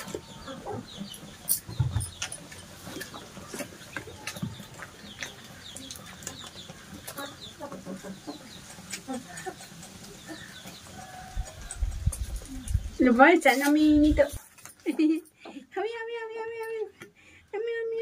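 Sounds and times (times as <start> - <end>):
chickens clucking: 0.0 - 15.6.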